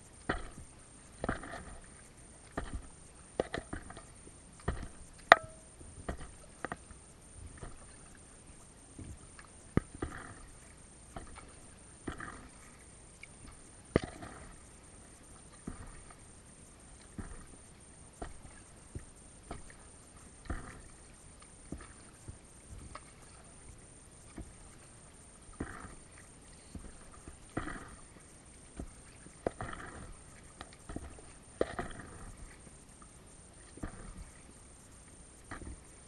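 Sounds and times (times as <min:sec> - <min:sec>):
paddle splashing water: 0:00.0 - 0:36.0.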